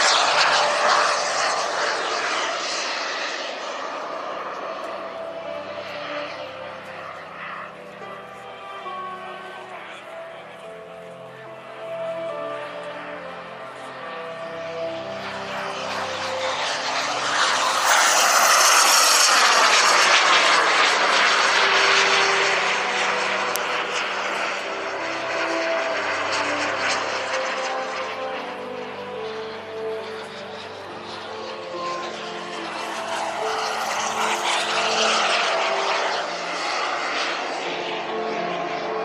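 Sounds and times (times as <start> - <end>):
model jet turbines whining past: 0.0 - 39.0.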